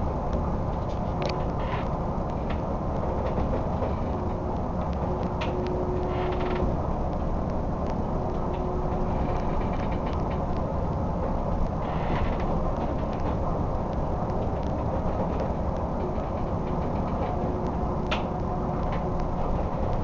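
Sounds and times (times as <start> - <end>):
boat low rumble: 0.0 - 20.0
creaks and rattles: 0.0 - 20.0
faint hum: 0.0 - 20.0.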